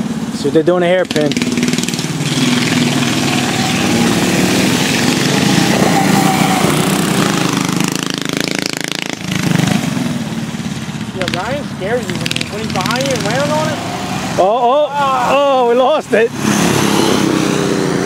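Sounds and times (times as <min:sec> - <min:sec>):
minibike engines running hard: 0:00.0 - 0:16.1.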